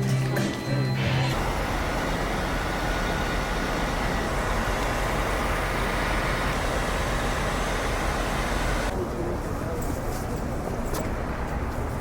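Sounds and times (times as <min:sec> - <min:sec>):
road traffic rumble and hiss: 0:01.0 - 0:12.0.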